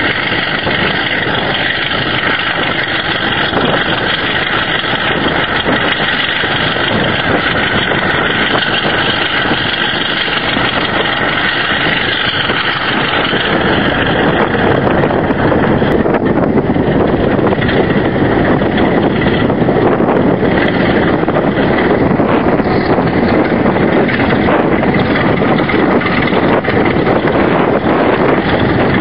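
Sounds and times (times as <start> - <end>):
diesel locomotive engine running: 0.0 - 29.0.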